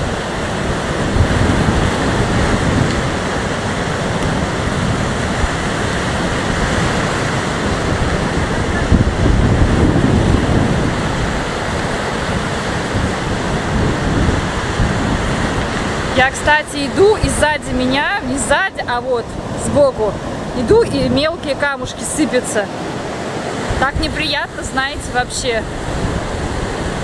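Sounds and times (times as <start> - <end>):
storm surf breaking: 0.0 - 27.0
wind rumbling on microphone: 0.0 - 27.0.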